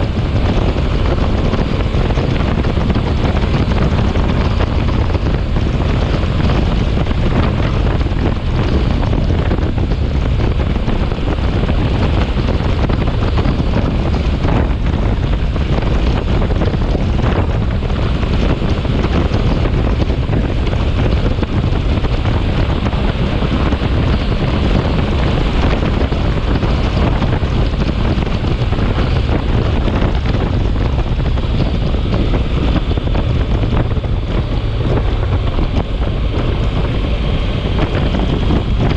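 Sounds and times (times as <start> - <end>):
wind blowing across microphone: 0.0 - 38.9.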